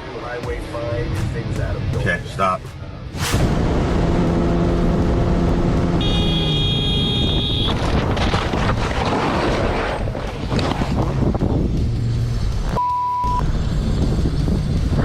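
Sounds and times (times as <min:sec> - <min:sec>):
vehicle moving: 0:00.0 - 0:15.0.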